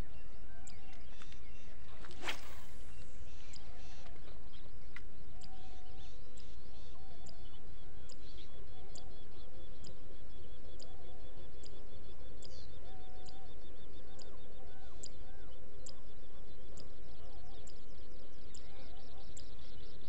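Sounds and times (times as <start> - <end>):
birds calling and chirping: 0.0 - 20.0.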